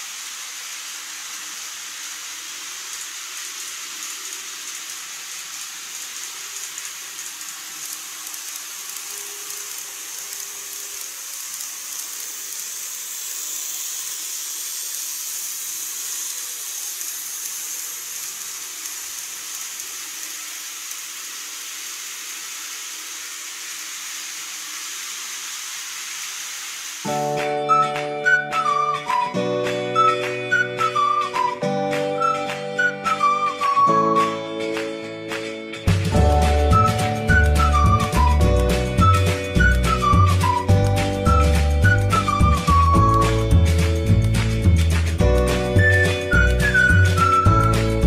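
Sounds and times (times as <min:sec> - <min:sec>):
model train running over bridge: 0:00.0 - 0:48.0
steady hiss: 0:00.0 - 0:48.0.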